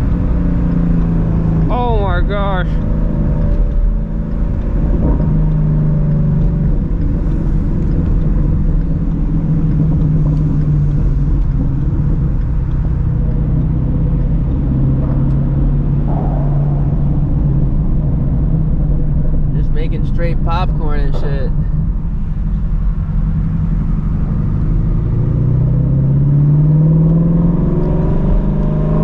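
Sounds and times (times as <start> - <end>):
car engine cruising: 0.0 - 29.0
road noise: 0.0 - 29.0.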